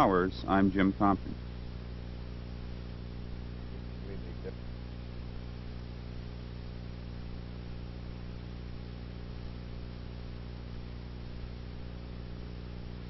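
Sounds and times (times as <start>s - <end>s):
constant hiss: 0.0s - 13.0s
electrical mains hum: 0.0s - 13.0s.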